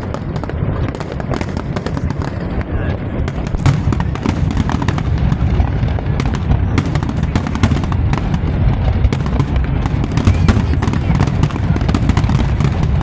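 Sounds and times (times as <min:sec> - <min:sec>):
fireworks cracking and popping: 0:00.0 - 0:13.0
fireworks rumble: 0:00.0 - 0:13.0.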